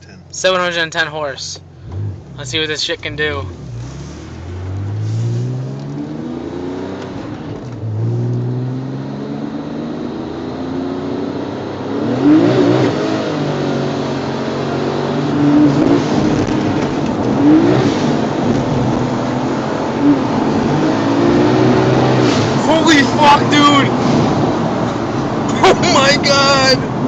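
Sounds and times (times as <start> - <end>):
car engine accelerating hard: 1.8 - 27.0.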